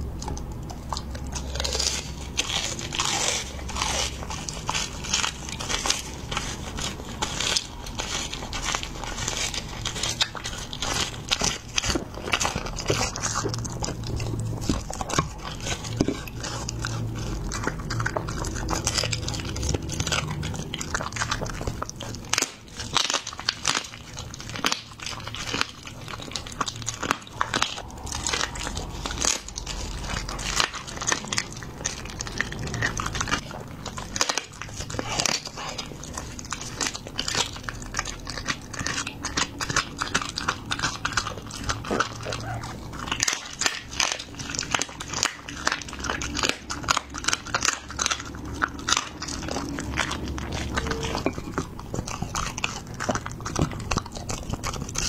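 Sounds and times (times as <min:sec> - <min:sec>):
dog crunching and chewing: 0:00.0 - 0:55.0.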